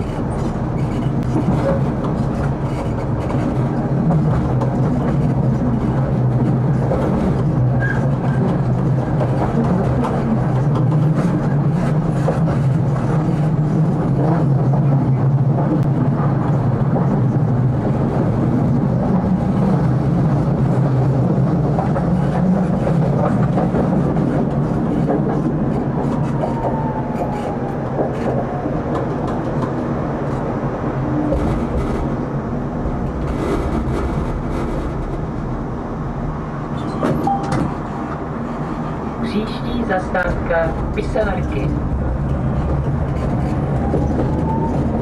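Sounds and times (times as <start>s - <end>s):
tram wheels rumbling on track: 0.0s - 45.0s.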